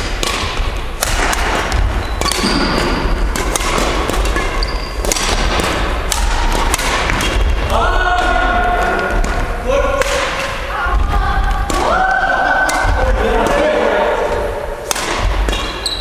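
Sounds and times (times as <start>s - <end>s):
rackets striking shuttlecock: 0.0s - 10.7s, 12.6s - 13.7s, 14.8s - 16.0s.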